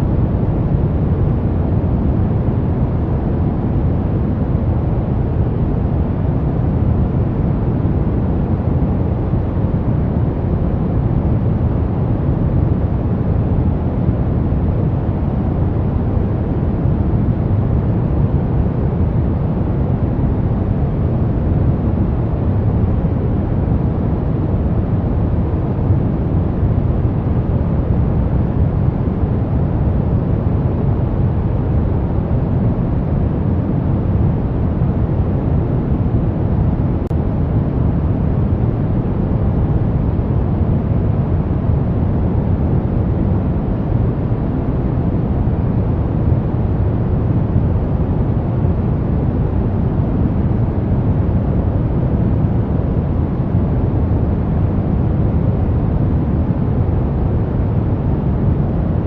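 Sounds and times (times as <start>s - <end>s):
deep rushing brown noise: 0.0s - 59.0s.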